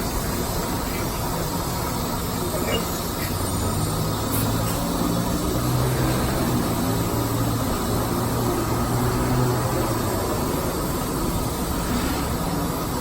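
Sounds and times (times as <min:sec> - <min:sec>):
diesel truck engine idling: 0:00.0 - 0:11.8.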